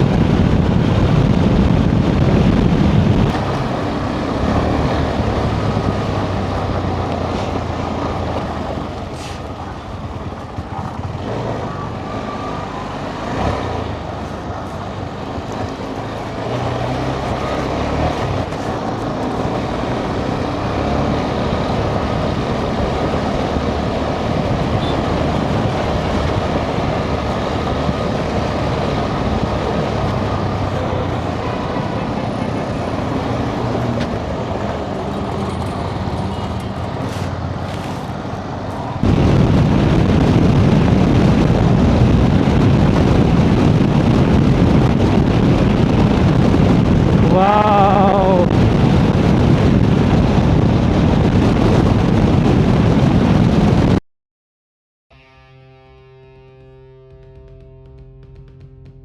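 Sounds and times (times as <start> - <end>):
motorcycle engine hum: 0.0 - 53.9, 56.2 - 59.0
wind and road noise: 0.0 - 54.0, 56.6 - 59.0.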